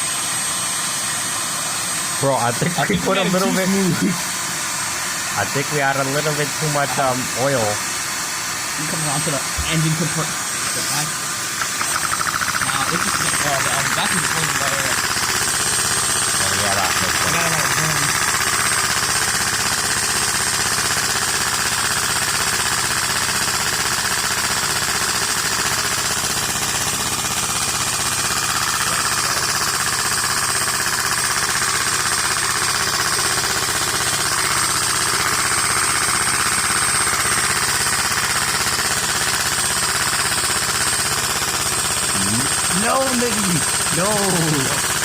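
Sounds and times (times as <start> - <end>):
air-driven engine rapid clatter: 0.0 - 45.0.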